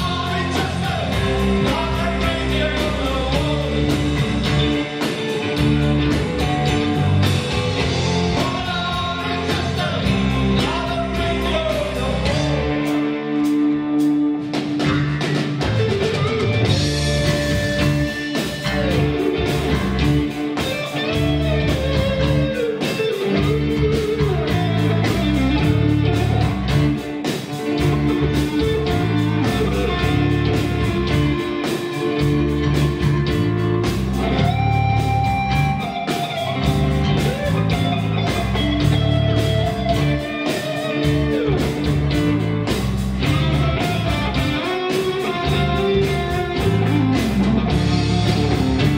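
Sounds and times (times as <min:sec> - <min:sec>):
drum beat: 0:00.0 - 0:11.8, 0:14.6 - 0:48.9
bass guitar: 0:00.0 - 0:48.9
electric guitar melody: 0:00.0 - 0:48.9.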